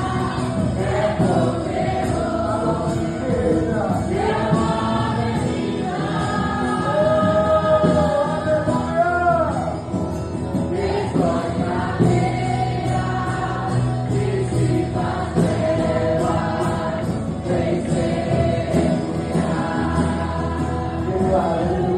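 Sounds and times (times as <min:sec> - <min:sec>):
group singing gospel song: 0:00.0 - 0:21.9.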